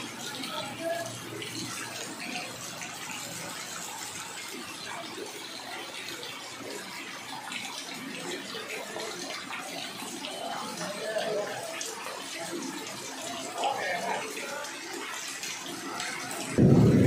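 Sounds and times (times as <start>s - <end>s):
rain on standing water: 0.0s - 17.0s.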